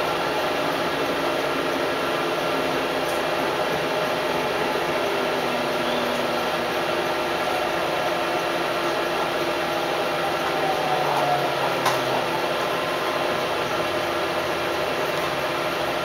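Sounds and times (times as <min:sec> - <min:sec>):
diesel railcar hum and rumble: 0:00.0 - 0:16.0.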